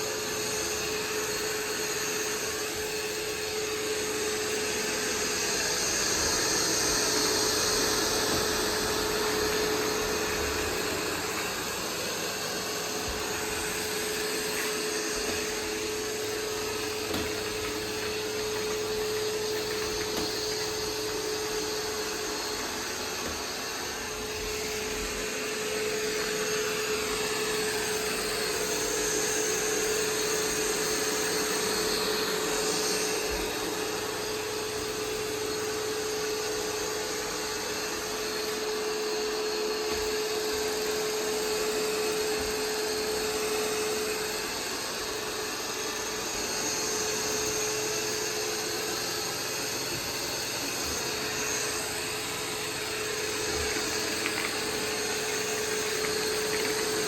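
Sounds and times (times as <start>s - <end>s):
robot vacuum running: 0.0s - 57.0s.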